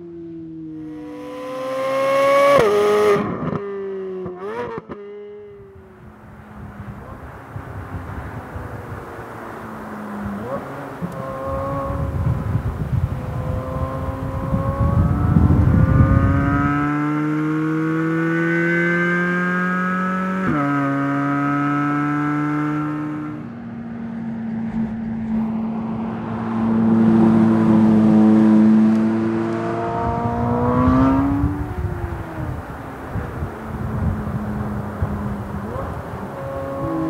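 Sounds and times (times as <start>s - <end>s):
car engine accelerating hard: 6.8s - 37.0s.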